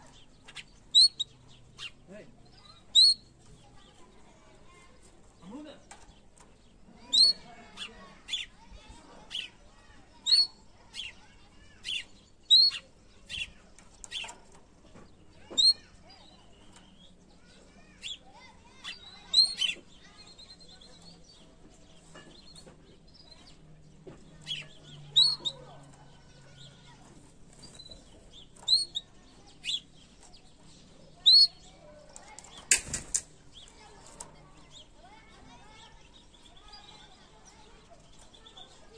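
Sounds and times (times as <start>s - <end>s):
canary chirping: 0.0s - 38.9s.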